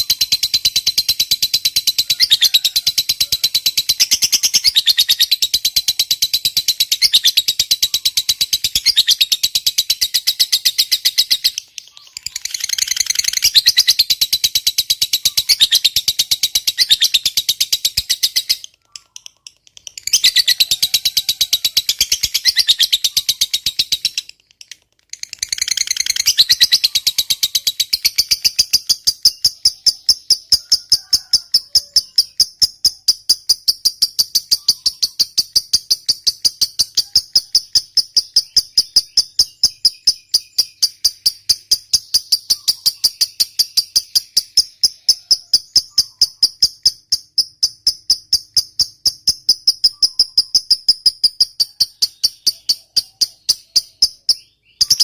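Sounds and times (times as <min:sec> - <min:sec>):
lovebird chattering: 0:00.0 - 0:55.0.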